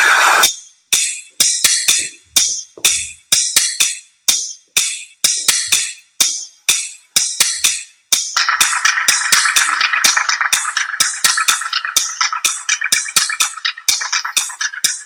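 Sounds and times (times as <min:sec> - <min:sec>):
jingling percussion beat: 0:00.5 - 0:15.0.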